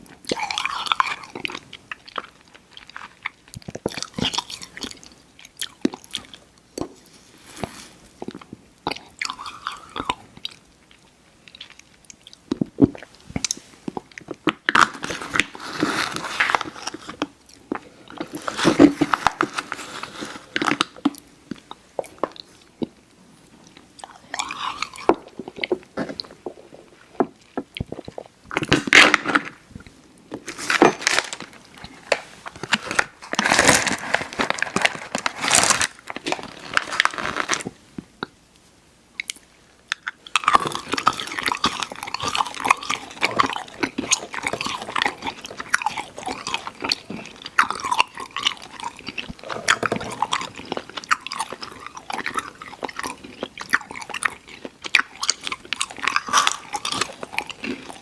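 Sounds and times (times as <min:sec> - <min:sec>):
candy chewing mouth sounds: 0:00.0 - 0:38.4, 0:39.2 - 0:58.0.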